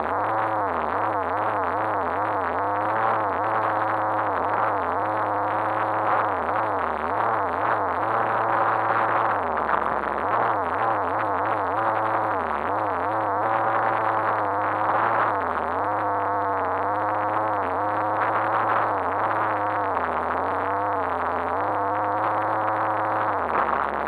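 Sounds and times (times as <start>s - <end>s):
muffled rc car motor: 0.0s - 24.0s.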